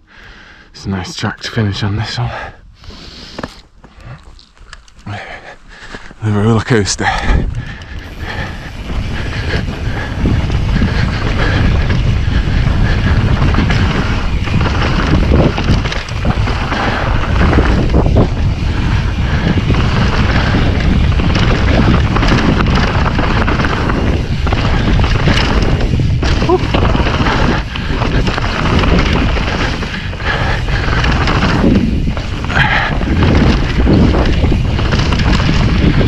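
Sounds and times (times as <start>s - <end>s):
wind buffeting microphone: 5.6s - 36.0s.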